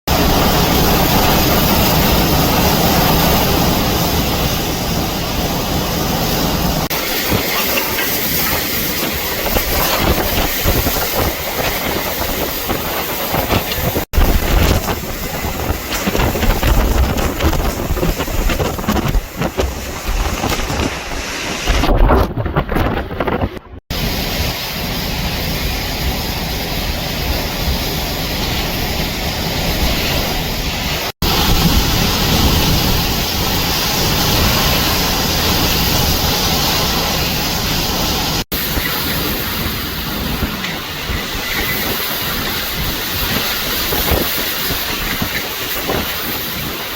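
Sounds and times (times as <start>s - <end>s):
hurricane wind blowing: 0.1s - 46.9s
wind rumble on microphone: 0.1s - 46.9s.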